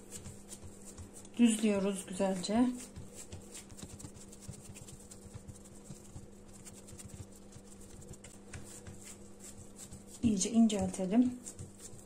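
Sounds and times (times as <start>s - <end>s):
hands patting dough: 0.0s - 12.0s
steady low hum: 0.0s - 12.0s.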